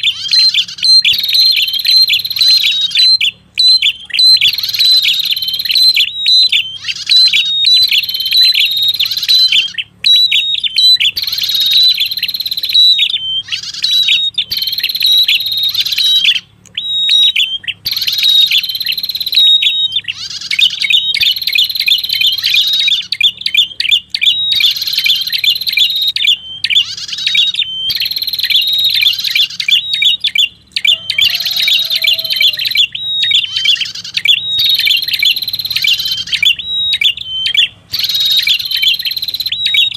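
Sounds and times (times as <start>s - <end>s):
bird song trilled chirping: 0.0s - 39.9s.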